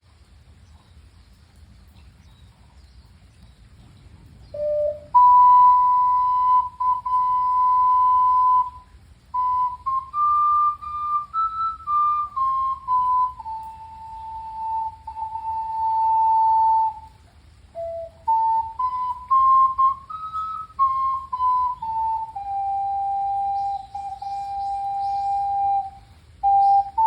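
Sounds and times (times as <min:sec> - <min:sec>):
rain: 0:00.0 - 0:27.0
ocarina melody: 0:04.6 - 0:27.0.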